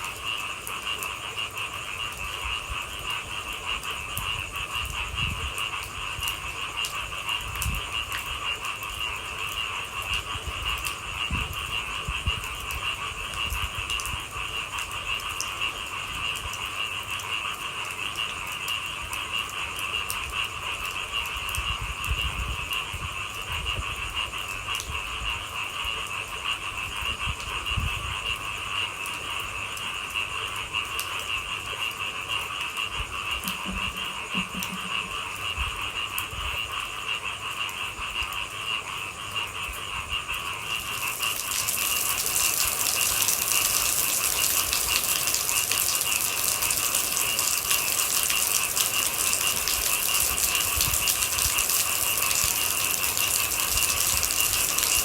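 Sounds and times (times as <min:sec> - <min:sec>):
frogs calling: 0:00.0 - 0:55.0
light rain ticks: 0:00.0 - 0:55.0.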